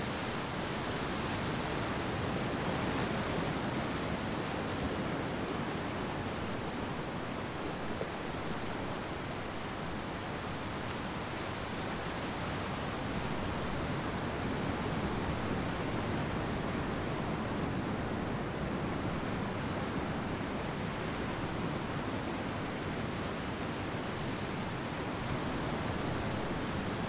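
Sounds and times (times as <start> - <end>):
ocean surf washing on beach: 0.0 - 27.0.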